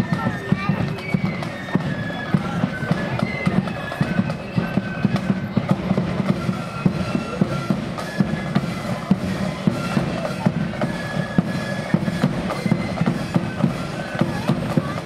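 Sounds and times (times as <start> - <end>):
flute melody: 0.0 - 15.0
side drum strokes: 0.0 - 15.0.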